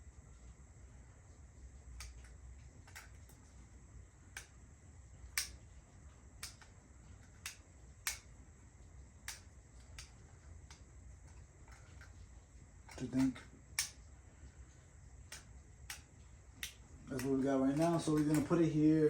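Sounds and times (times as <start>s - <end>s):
sharp small clicks: 1.8s - 18.8s.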